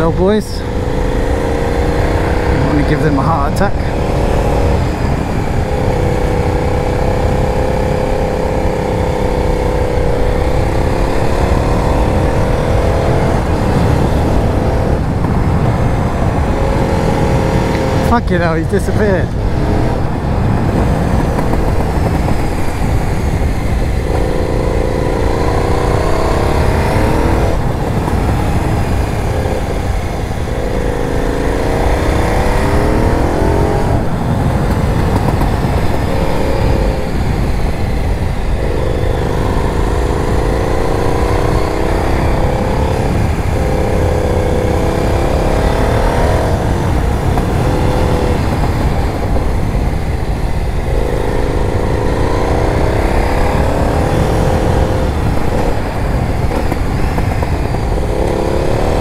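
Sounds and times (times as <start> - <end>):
motorcycle engine revving: 0.0 - 59.0
wind rumble on microphone: 0.0 - 59.0.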